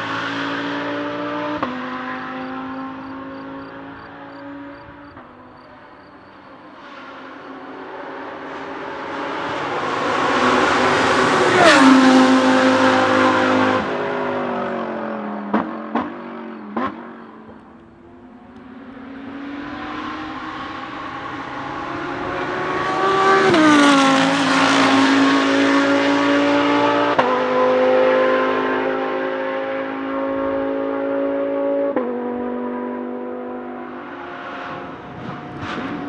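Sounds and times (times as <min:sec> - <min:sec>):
race car engine passing: 0:00.0 - 0:36.0.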